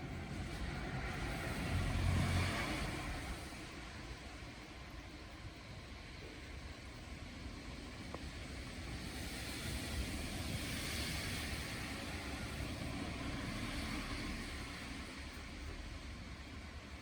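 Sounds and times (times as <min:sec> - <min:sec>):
vehicle passing hiss: 0:00.0 - 0:04.7, 0:07.2 - 0:17.0.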